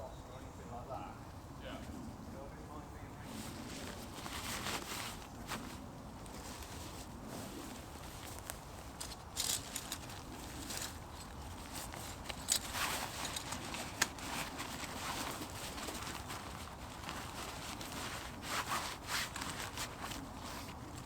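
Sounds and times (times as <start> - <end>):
rustling: 3.2 - 21.0
camping gear clicking and snapping: 3.4 - 21.0.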